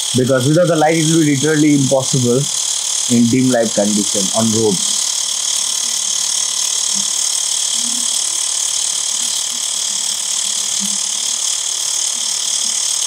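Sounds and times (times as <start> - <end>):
air compressor buzzing drone: 0.0 - 13.0.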